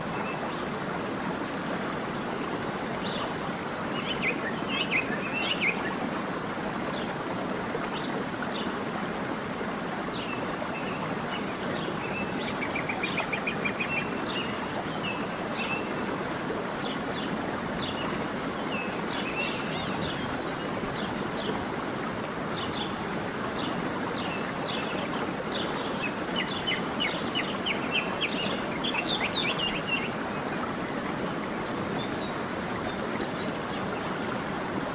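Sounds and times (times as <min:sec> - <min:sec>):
stream running: 0:00.0 - 0:34.9.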